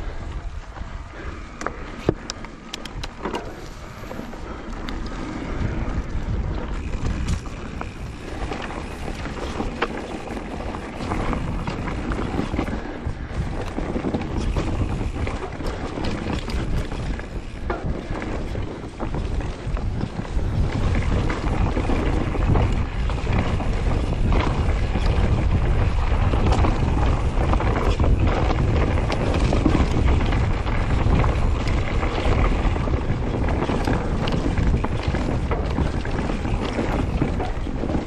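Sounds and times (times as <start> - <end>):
bike clicks and knocks: 0.0 - 38.0
wind rushing over microphone: 0.0 - 38.0
tyres rumbling on dirt: 2.9 - 38.0.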